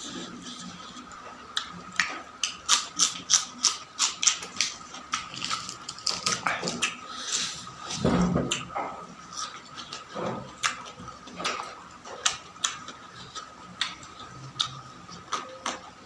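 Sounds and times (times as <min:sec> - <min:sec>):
chewing crunchy food: 0:00.0 - 0:16.0.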